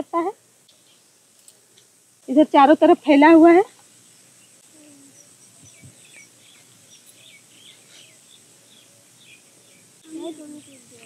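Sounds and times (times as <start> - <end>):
steady high-pitched hiss: 0.0 - 11.0
small birds chirping: 0.2 - 11.0.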